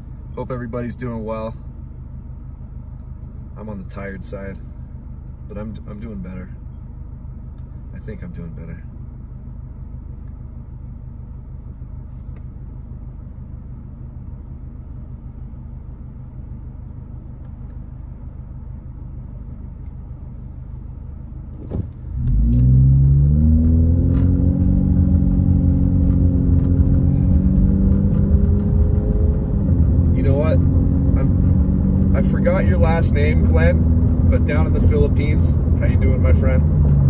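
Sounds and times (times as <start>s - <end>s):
car engine idling and accelerating: 0.0s - 37.0s.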